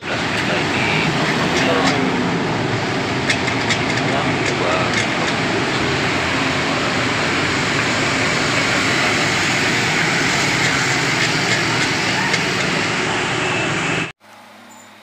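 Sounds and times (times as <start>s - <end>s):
loud mechanical drone: 0.0s - 15.0s.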